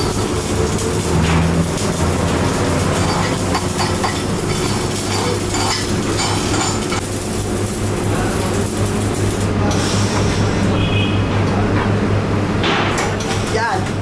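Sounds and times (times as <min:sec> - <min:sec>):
welding arc crackling: 0:00.0 - 0:11.7
welding machine hum: 0:00.0 - 0:14.0.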